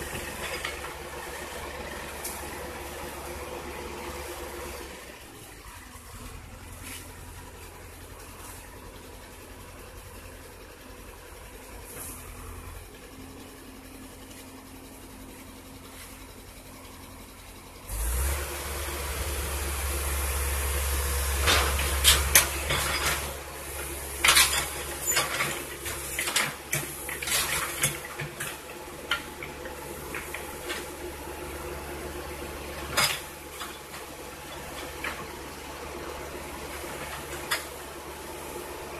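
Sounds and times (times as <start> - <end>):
excavator diesel engine revving: 0.0 - 38.9.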